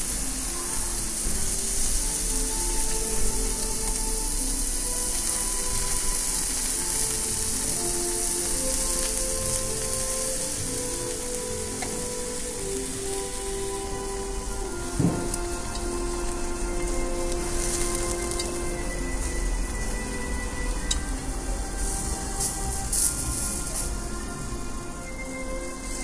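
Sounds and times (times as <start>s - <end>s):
skewers sizzling on grill: 0.0s - 26.0s
soft background music: 0.0s - 26.0s.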